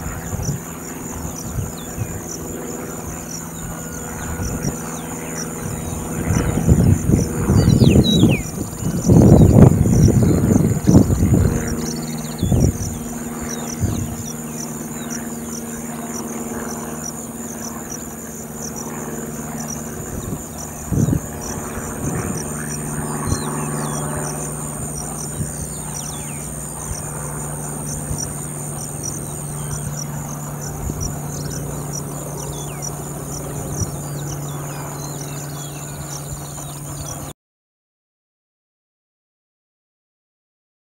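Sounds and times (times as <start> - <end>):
insect chorus: 0.0 - 37.2.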